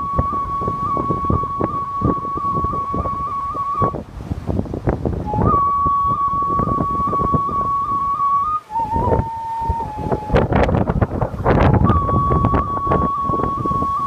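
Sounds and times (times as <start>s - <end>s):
flute holding high note: 0.0s - 4.1s, 5.2s - 14.0s
wind buffeting microphone: 0.0s - 14.0s.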